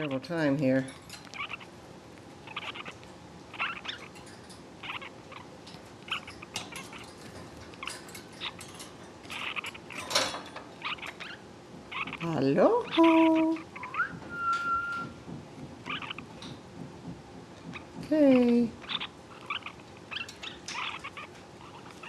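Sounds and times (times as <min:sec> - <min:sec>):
parakeets chirping softly: 0:00.0 - 0:22.0.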